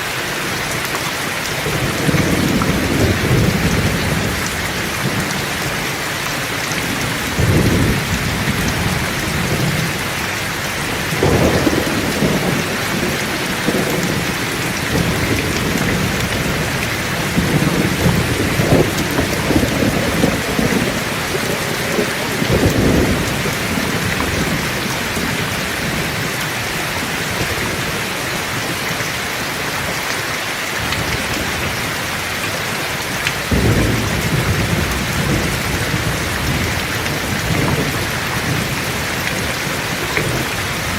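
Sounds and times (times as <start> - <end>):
heavy rain falling: 0.0 - 40.9
rolling thunder: 1.6 - 29.1, 33.3 - 40.9.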